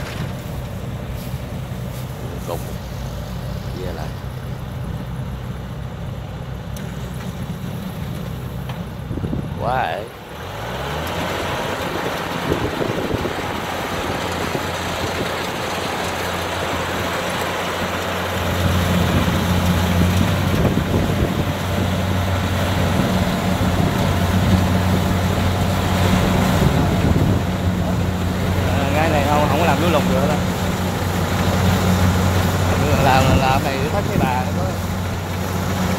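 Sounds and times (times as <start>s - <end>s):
combine harvester running: 0.0s - 35.9s.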